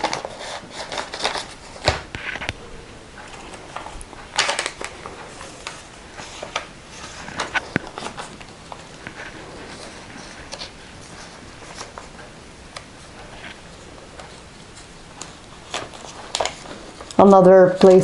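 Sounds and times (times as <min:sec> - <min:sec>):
paper pages rustling: 0:00.0 - 0:02.6, 0:03.2 - 0:18.0.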